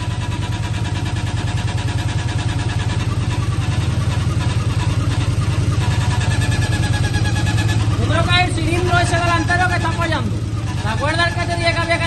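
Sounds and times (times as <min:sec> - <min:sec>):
engine misfiring: 0:00.0 - 0:12.0
motorcycle engine running: 0:00.0 - 0:12.0.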